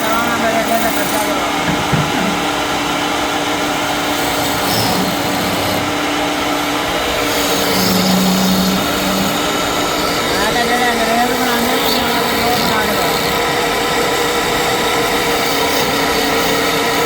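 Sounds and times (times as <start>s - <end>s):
power tool motor humming: 0.0s - 17.0s.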